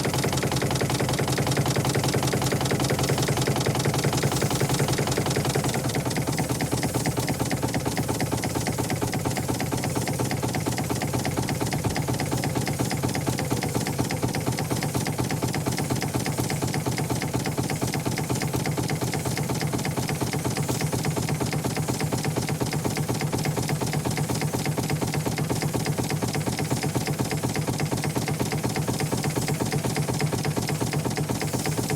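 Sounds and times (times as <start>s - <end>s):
engine running steadily: 0.0s - 31.9s.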